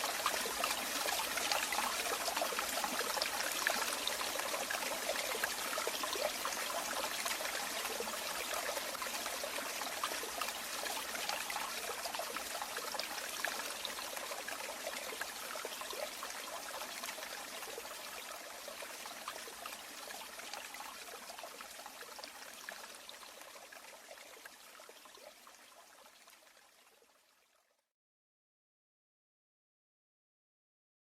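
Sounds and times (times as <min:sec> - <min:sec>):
water trickling and splashing: 0:00.0 - 0:27.7.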